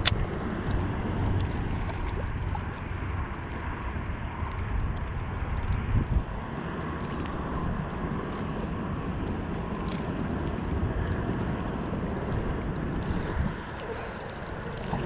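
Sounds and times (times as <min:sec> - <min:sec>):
small waves lapping on rocks: 0:00.0 - 0:15.0
wind rumbling on microphone: 0:00.0 - 0:15.0.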